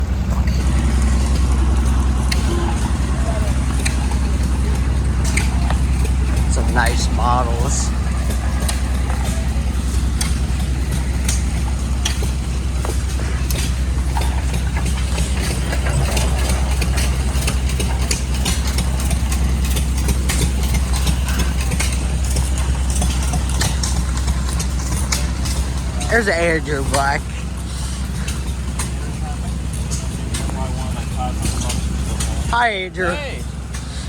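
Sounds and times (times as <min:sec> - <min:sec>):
engine pops and clicks: 0:00.0 - 0:34.0
stationary engines humming: 0:00.0 - 0:34.0.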